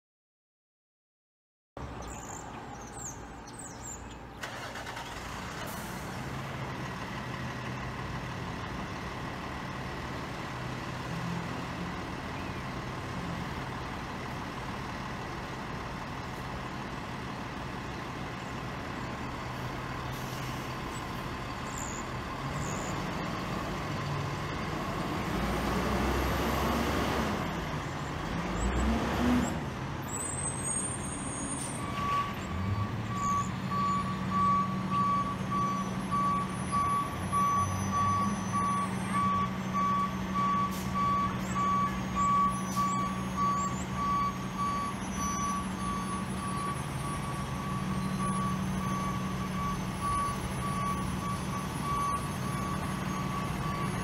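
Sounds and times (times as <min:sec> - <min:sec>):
truck engine idling and revving: 0:01.8 - 0:54.0.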